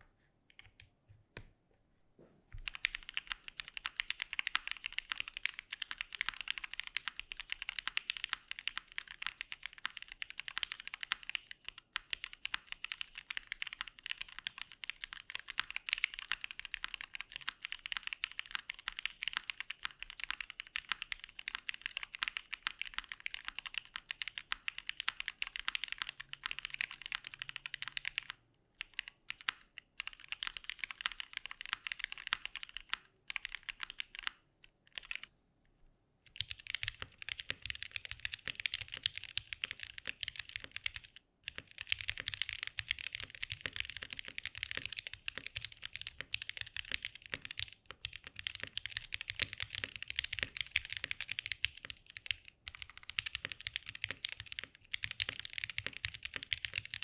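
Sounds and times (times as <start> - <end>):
fast mechanical keyboard typing: 2.6 - 34.4, 35.0 - 35.3, 36.3 - 57.0.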